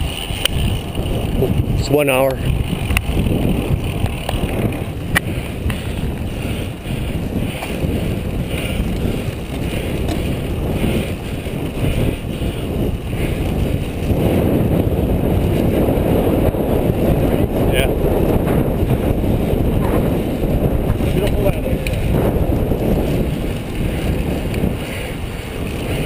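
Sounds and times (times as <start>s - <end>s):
bicycle road noise: 0.0s - 26.0s
wind rushing over microphone: 0.0s - 26.0s.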